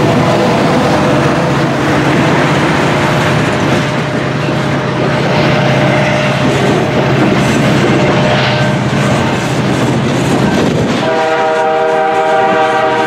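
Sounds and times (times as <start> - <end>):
freight train wheels rumbling on rails: 0.0 - 13.0.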